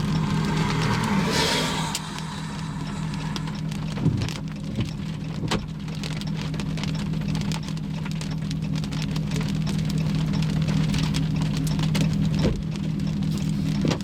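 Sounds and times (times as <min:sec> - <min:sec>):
heavy rain on vehicle roof: 0:00.0 - 0:01.2, 0:01.9 - 0:14.0
low vehicle hum: 0:00.0 - 0:14.0.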